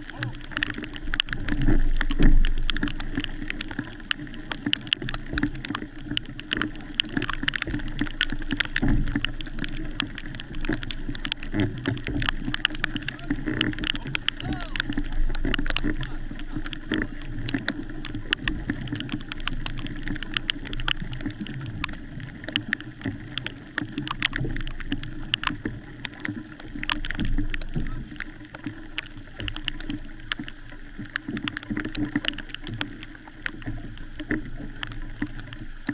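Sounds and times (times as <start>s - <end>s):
water splashing and sloshing: 0.0s - 35.9s.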